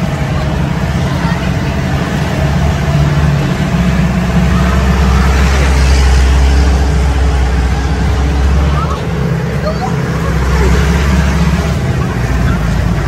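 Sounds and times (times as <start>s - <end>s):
jeep engine driving: 0.0s - 13.0s
rough road noise: 0.0s - 13.0s.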